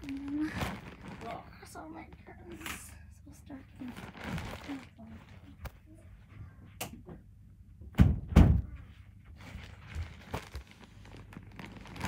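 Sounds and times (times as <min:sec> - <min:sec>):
rustling: 0:00.0 - 0:06.6, 0:08.8 - 0:12.0.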